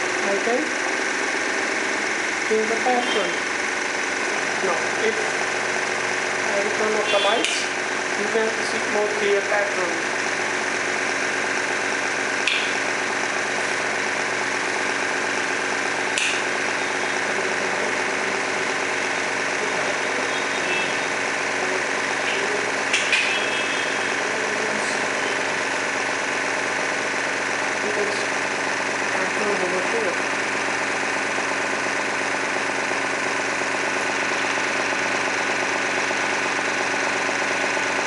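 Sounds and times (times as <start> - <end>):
electric motor humming: 0.0 - 38.0.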